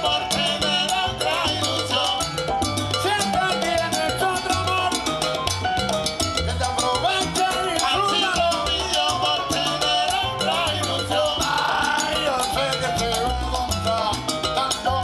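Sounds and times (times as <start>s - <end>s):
live salsa band playing: 0.0s - 15.0s.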